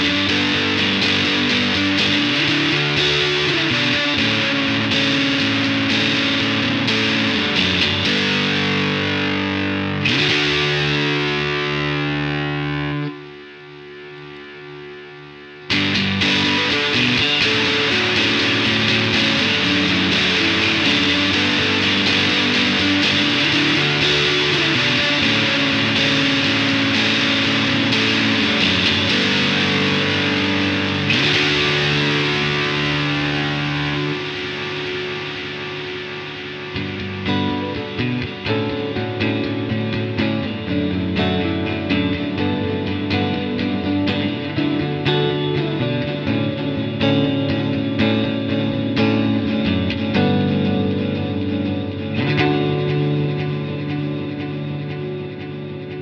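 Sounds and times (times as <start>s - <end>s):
distorted electric guitar chords: 0.0s - 56.0s.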